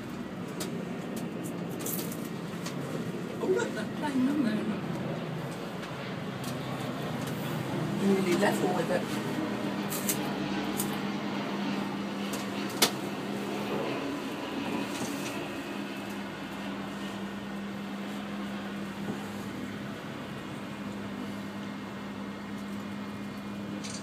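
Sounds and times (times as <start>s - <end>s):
cable car hum: 0.0s - 24.0s.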